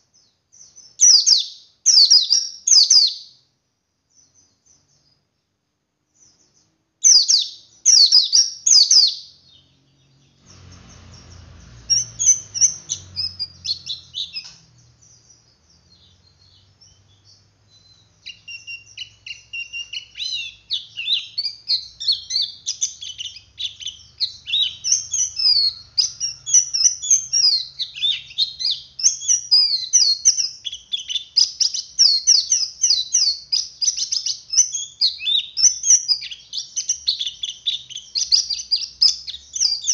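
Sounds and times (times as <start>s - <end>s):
bird twittering: 0.5s - 3.4s, 6.2s - 39.9s.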